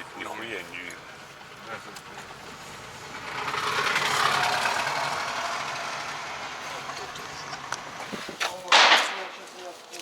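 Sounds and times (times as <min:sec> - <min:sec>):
vehicle rushing past: 0:00.0 - 0:08.2
road traffic from inside a car: 0:00.0 - 0:08.6.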